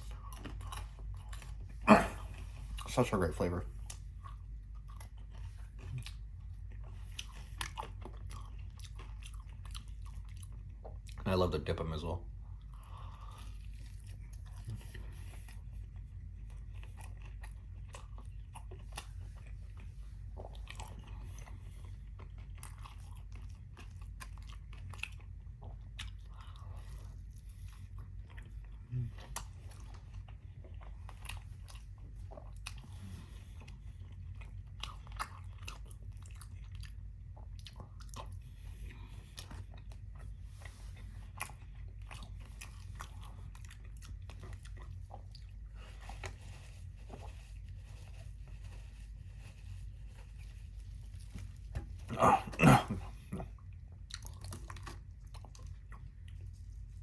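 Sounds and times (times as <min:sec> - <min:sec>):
chewing fried chicken: 0:00.0 - 0:57.0
steady low hum: 0:00.0 - 0:57.0.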